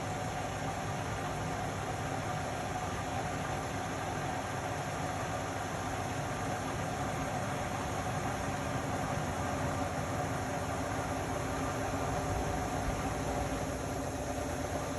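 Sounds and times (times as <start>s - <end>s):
washing machine running: 0.0s - 14.9s.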